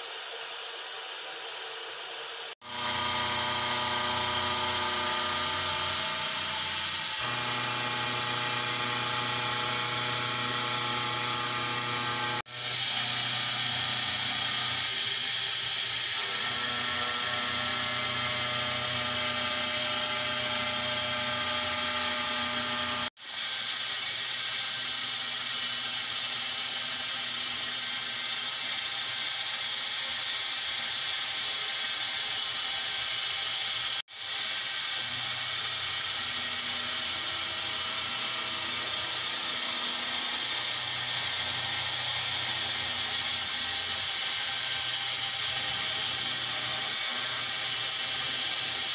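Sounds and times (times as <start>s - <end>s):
milling machine cutting whine: 2.6s - 48.9s.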